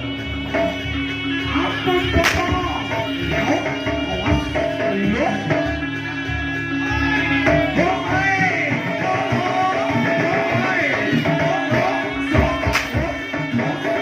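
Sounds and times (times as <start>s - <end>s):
drums: 0.0s - 14.0s
wavering melody: 0.0s - 14.0s.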